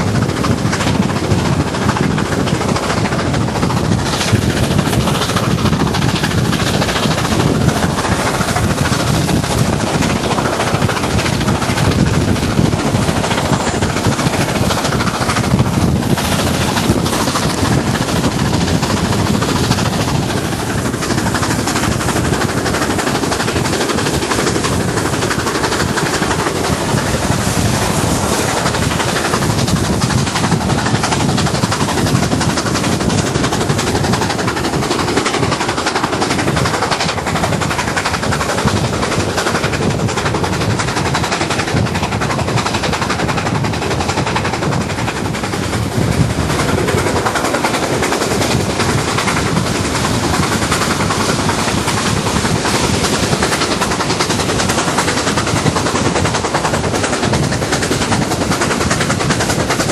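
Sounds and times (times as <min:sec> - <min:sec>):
rush of wind: 0:00.0 - 0:59.9
steam locomotive exhaust beating: 0:00.0 - 0:59.9
train wheels: 0:00.0 - 0:59.9.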